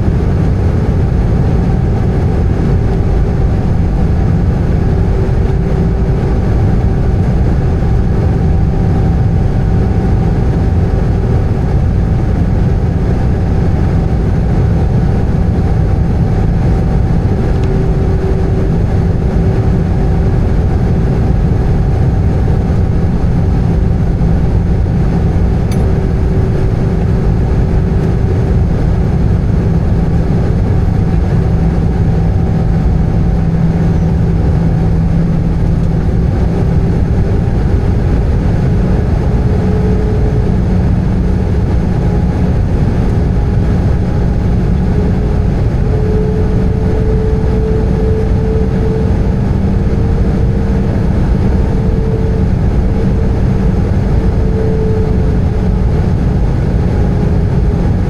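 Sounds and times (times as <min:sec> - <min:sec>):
jet engine drone in cabin: 0:00.0 - 0:58.0.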